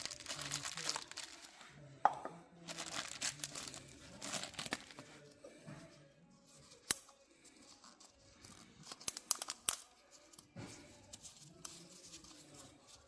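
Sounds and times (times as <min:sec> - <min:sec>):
crinkling handling noise: 0:00.0 - 0:01.9, 0:02.6 - 0:13.0.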